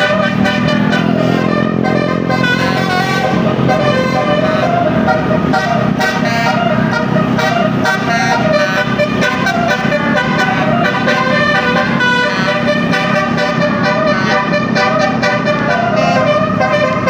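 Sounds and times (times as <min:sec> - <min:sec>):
multi-tone melodic air horn: 0:00.0 - 0:17.0.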